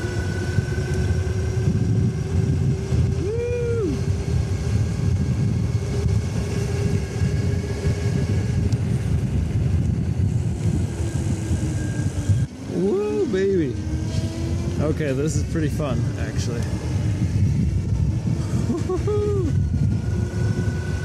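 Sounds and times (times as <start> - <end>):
electric motor whine: 0.0 - 21.0
wind buffeting microphone: 0.0 - 21.0.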